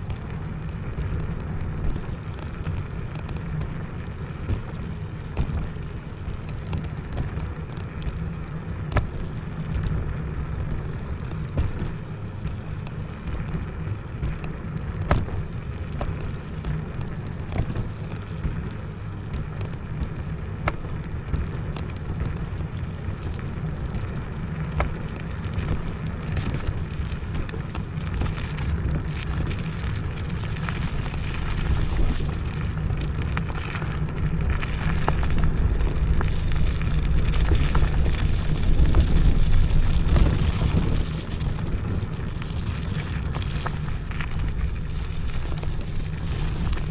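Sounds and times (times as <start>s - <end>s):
tyres on rough wet ground: 0.0s - 46.9s
wind rumble: 0.0s - 46.9s.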